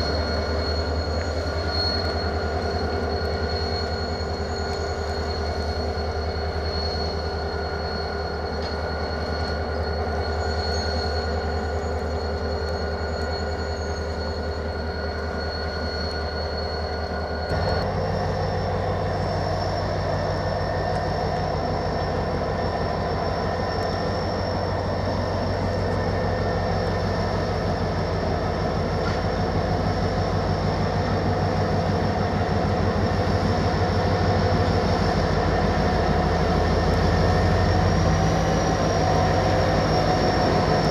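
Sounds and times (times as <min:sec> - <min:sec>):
diesel locomotive engine with whine: 0:00.0 - 0:40.9.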